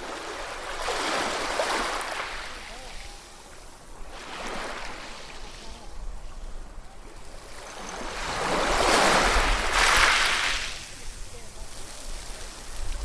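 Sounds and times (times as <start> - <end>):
ocean waves washing onto shore: 0.0 - 13.0.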